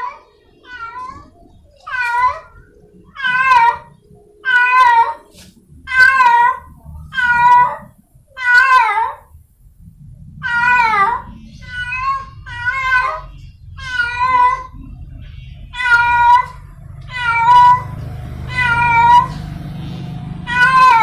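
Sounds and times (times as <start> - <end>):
cat yowling meows: 0.0 - 5.3, 5.9 - 9.3, 10.4 - 14.8, 15.7 - 19.6, 20.4 - 21.0.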